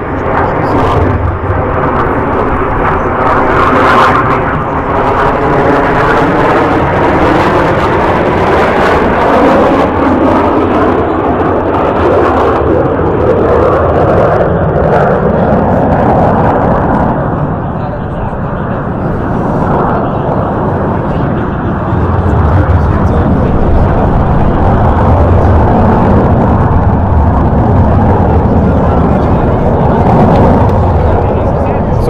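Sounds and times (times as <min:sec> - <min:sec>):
jet aircraft roaring past: 0:00.0 - 0:32.0.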